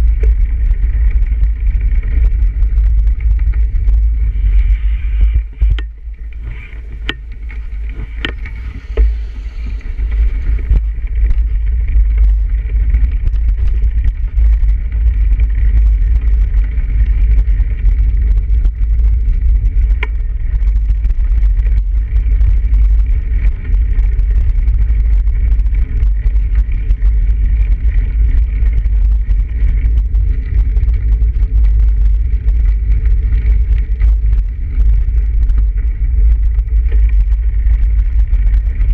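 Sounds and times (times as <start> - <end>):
bicycle clicks and rattles: 0.0 - 38.9
wind and tyre rumble: 0.0 - 38.9.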